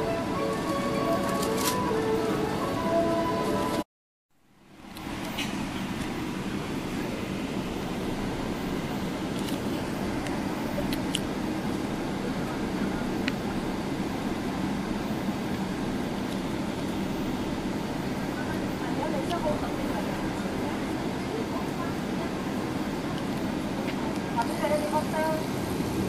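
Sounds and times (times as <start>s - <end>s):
jet engine cabin rumble and hiss: 0.0s - 3.9s, 4.6s - 26.0s.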